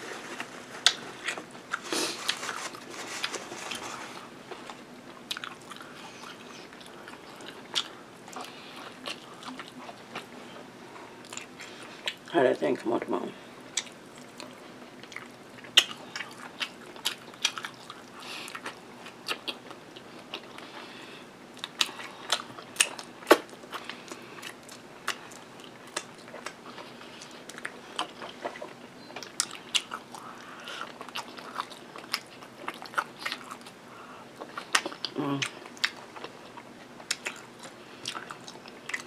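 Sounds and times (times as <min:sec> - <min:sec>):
person chewing meat: 0:04.5 - 0:12.3, 0:13.6 - 0:39.0.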